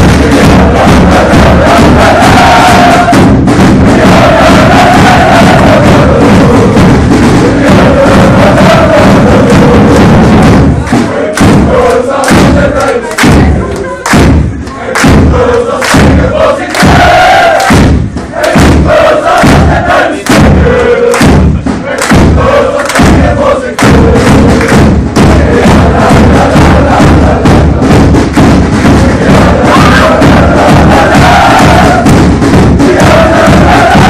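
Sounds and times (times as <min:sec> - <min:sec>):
football crowd chanting: 0:00.0 - 0:34.0
loud rhythmic thumps: 0:00.0 - 0:34.0.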